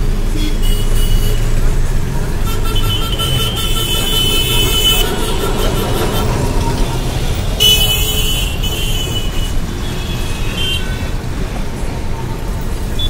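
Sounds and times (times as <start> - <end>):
bus engine and road rumble: 0.0 - 13.0
horns tooting: 0.3 - 11.3.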